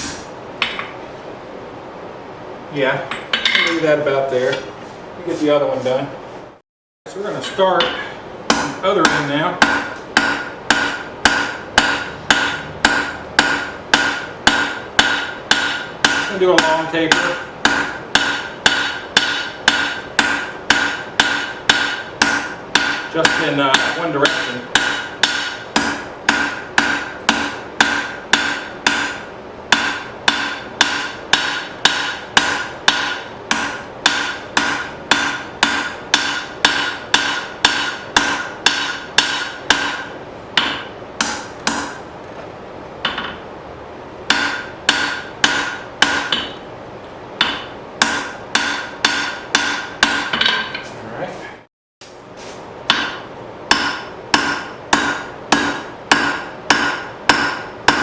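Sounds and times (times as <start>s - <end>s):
hammer striking steel on anvil: 0.0s - 1.0s, 3.1s - 3.9s, 7.4s - 42.1s, 43.0s - 43.4s, 44.2s - 46.7s, 47.4s - 50.8s, 52.8s - 58.0s.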